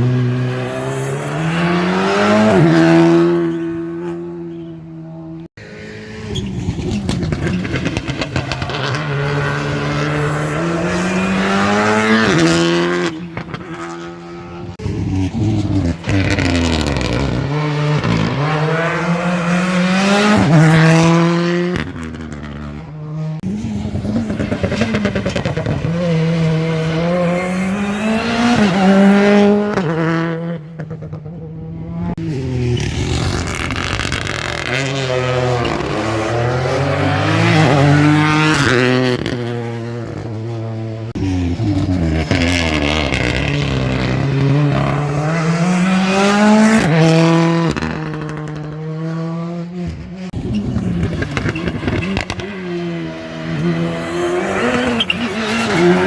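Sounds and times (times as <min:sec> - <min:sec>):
rally car engines revving hard: 0:00.0 - 0:56.0.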